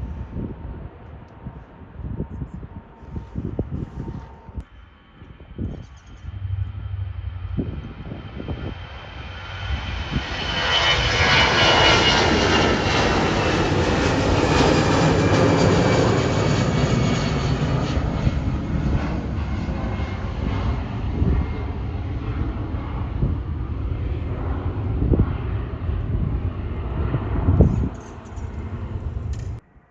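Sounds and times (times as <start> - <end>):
jet airliner passing: 2.6 - 29.6.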